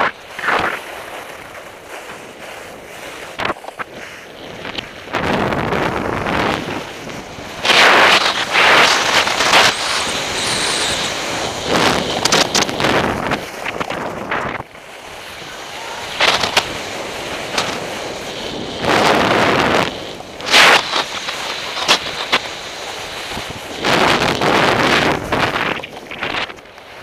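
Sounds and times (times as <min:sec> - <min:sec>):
wind rushing over microphone: 0:00.0 - 0:27.0
ski edges scraping snow: 0:00.3 - 0:26.5.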